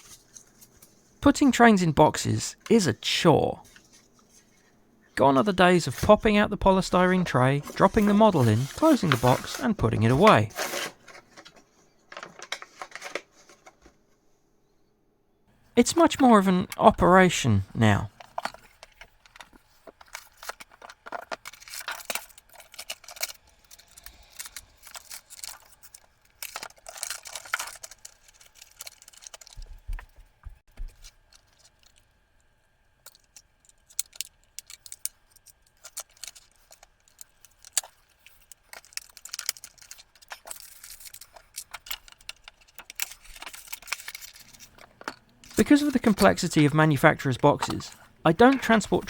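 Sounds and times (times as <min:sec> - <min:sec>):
packaging rustling and scraping: 0:00.0 - 0:01.2, 0:06.8 - 0:14.3, 0:18.0 - 0:49.0.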